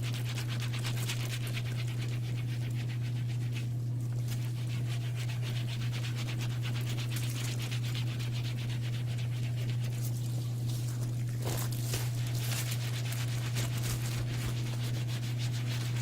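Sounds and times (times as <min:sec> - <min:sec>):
rhythmic rubbing on leather: 0:00.0 - 0:16.0.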